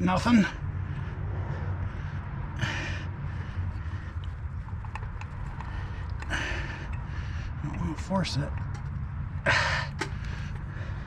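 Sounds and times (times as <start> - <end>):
steady low hum: 0.0 - 11.0
man breathing heavily: 0.3 - 7.7, 9.0 - 11.0.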